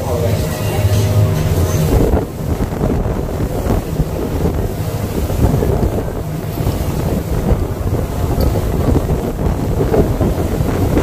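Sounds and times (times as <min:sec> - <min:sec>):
boat moving through choppy water: 0:00.0 - 0:11.0
wind buffeting microphone: 0:00.0 - 0:11.0.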